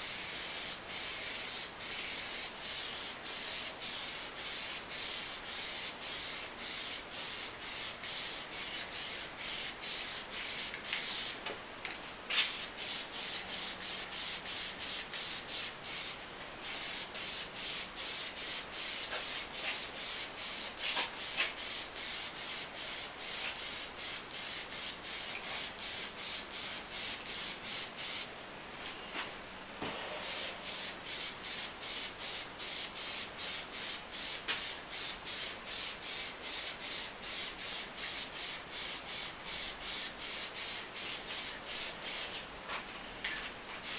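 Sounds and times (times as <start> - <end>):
aerosol can spraying: 0.0 - 11.4, 12.3 - 28.3, 30.2 - 42.8.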